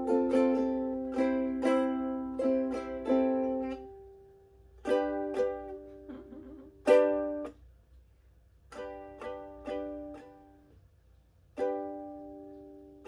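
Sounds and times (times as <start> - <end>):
ukulele strumming chords: 0.0 - 7.6, 8.7 - 10.8, 11.5 - 13.0.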